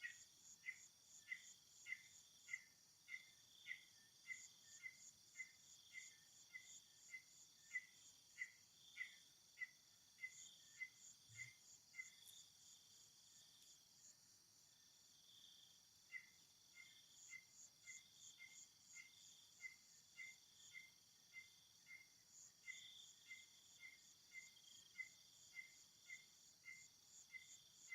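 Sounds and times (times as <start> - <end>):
insect buzzing and chirping: 0.0 - 27.9.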